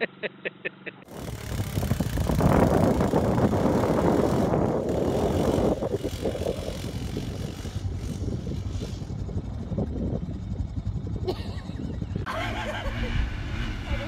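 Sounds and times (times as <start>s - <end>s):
quad bike engine running: 1.0s - 14.0s
wind noise on microphone: 1.1s - 14.0s.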